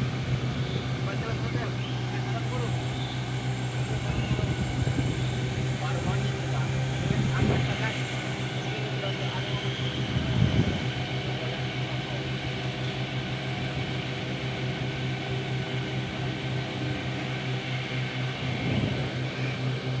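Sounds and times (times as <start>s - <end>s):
small engine droning: 0.0s - 20.0s.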